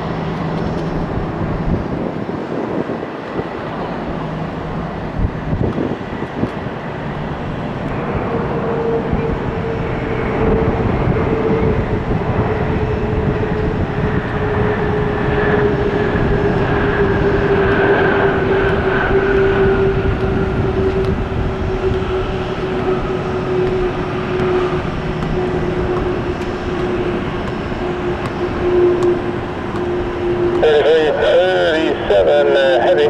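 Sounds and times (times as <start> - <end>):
jet engine whine: 0.0 - 33.0
jet engines landing: 0.0 - 33.0.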